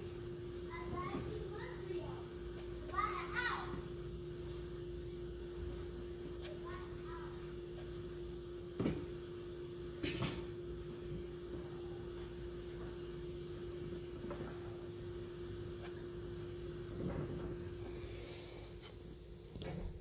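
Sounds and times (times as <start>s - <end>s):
high-pitched electrical whine: 0.0s - 20.0s.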